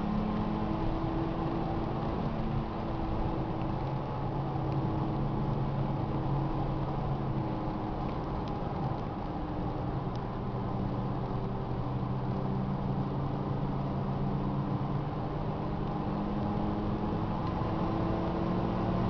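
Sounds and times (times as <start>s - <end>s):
car engine humming: 0.0s - 19.0s
road and tyre noise: 0.0s - 19.0s.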